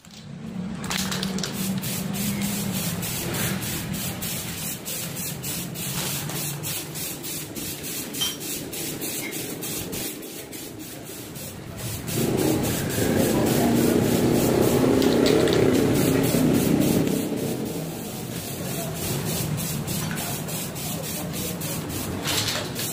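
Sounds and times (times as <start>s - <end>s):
spray paint can hissing: 0.8s - 22.9s.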